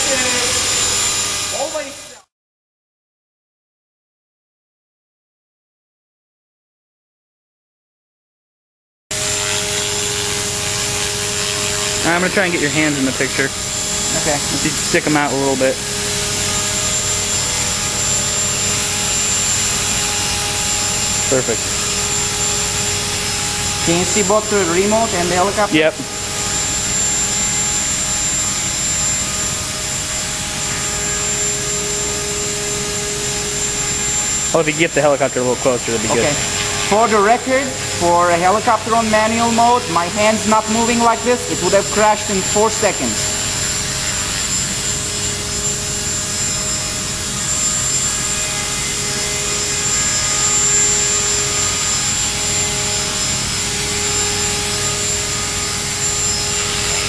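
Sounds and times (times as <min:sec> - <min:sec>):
rotor blades whirring: 0:00.0 - 0:02.2, 0:09.2 - 0:57.0
rc helicopter motor whine: 0:00.0 - 0:02.3, 0:09.1 - 0:57.0.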